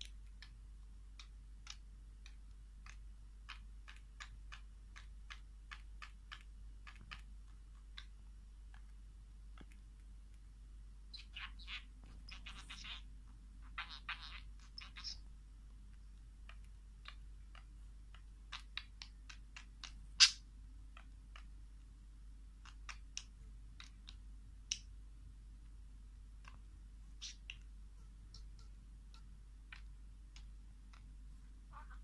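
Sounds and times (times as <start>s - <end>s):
bird beak clicking and tapping: 0.0s - 10.4s, 11.1s - 21.6s, 22.5s - 25.0s, 25.6s - 31.2s.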